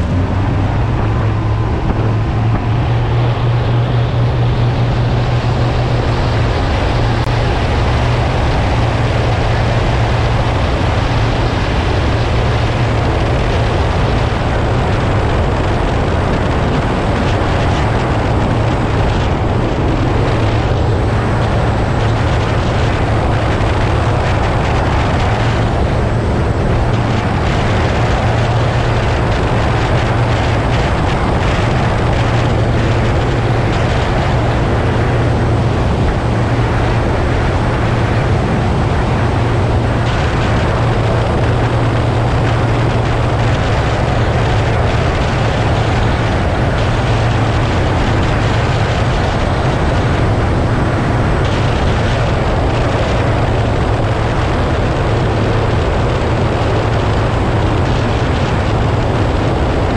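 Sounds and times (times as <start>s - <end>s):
outboard motors droning: 0.0s - 59.9s
rush of wind and water: 0.0s - 59.9s.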